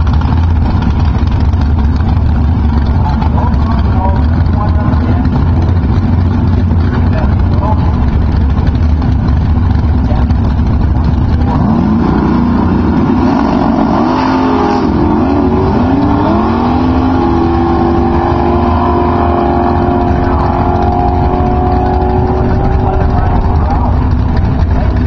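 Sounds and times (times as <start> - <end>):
drag racing cars accelerating: 0.0 - 25.0.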